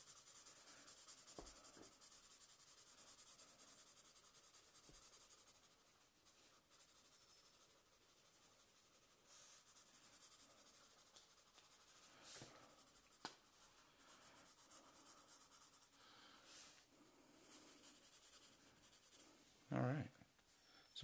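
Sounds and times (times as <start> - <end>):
marker scratching on paper: 0.0 - 16.0, 17.4 - 19.4.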